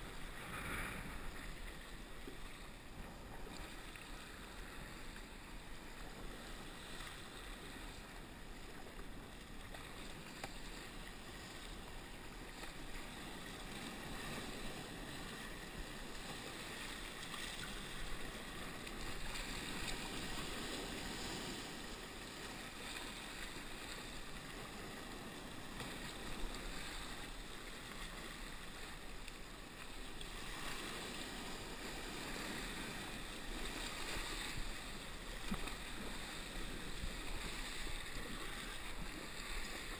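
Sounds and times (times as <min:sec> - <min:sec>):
paddle splashes: 0:00.0 - 0:39.9
water sloshing along kayak hull: 0:00.0 - 0:39.9.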